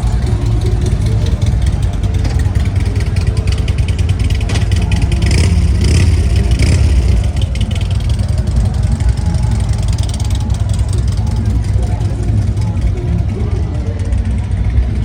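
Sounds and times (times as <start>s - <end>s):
motorcycle engines rumbling: 0.0s - 15.0s.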